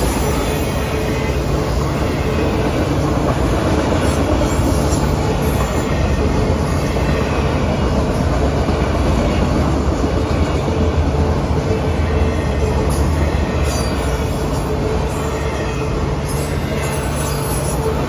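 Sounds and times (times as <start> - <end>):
steel wheels rumbling on rails: 0.0 - 18.0.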